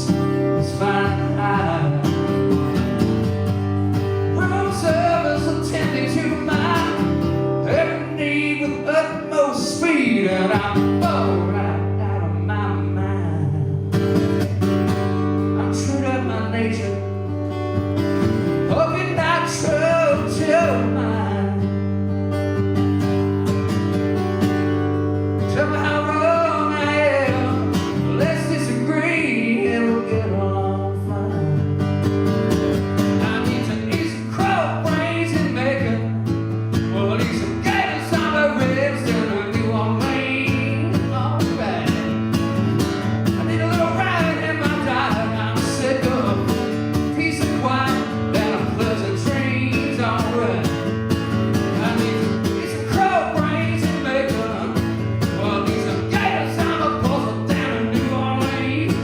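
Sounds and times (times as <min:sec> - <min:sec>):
acoustic guitar strumming: 0:00.0 - 0:59.0
live country-rock band playing: 0:00.0 - 0:59.0.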